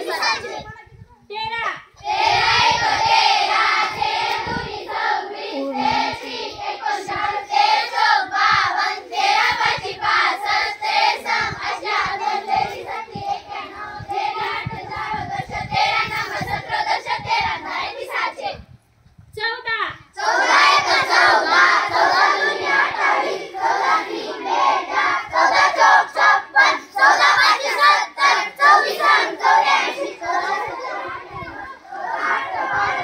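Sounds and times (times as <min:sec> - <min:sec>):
children chanting in unison: 0:00.0 - 0:00.7, 0:02.0 - 0:18.6, 0:20.2 - 0:33.0.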